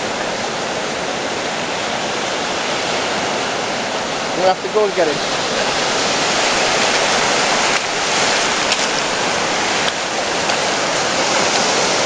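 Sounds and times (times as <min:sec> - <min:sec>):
surf breaking on sandy beach: 0:00.0 - 0:12.0.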